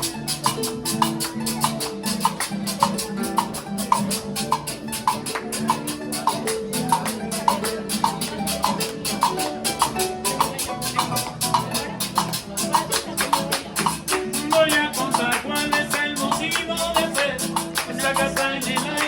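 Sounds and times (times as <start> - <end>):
guitar and harp music: 0.0 - 19.0
hand percussion shaker strokes: 0.0 - 19.0.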